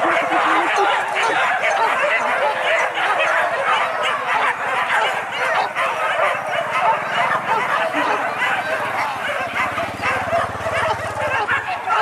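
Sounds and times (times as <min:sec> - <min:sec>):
pack of dogs barking: 0:00.0 - 0:12.0.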